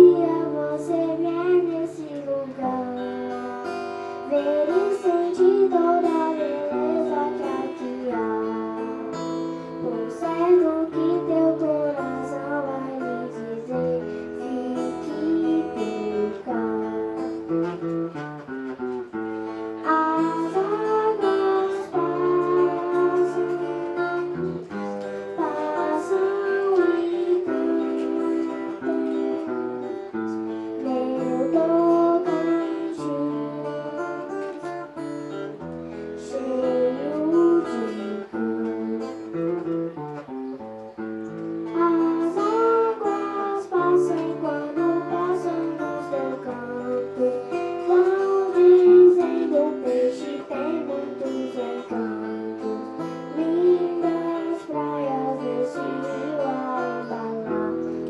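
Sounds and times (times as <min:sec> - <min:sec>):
girl singing into a microphone: 0:00.0 - 0:58.0
strummed acoustic guitar: 0:00.0 - 0:58.0.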